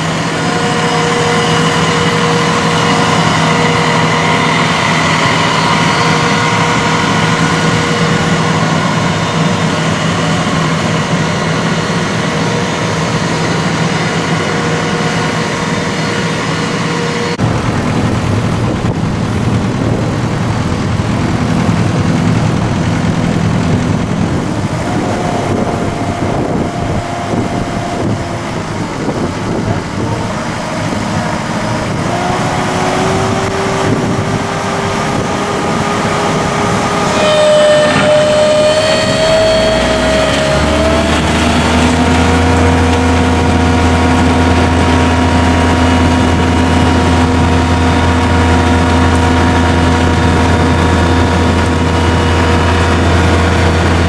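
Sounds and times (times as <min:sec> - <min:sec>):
machine whine shifting pitch: 0:00.0 - 0:54.0
tracked harvester engine running: 0:00.0 - 0:54.0.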